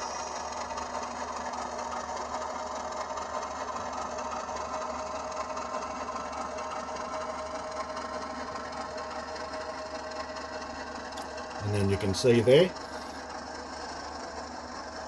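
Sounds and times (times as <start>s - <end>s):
diesel engine sound from small speaker: 0.0s - 15.0s.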